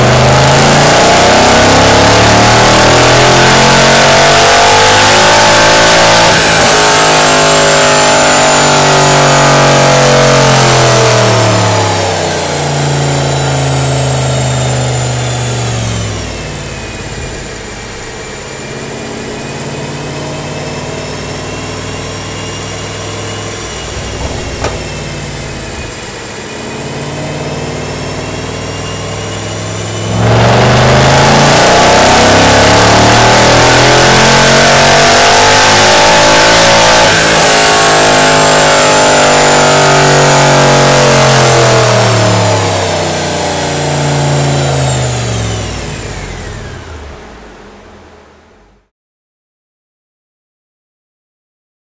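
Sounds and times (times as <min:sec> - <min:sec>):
car engine revving on dyno: 0:00.0 - 0:48.9.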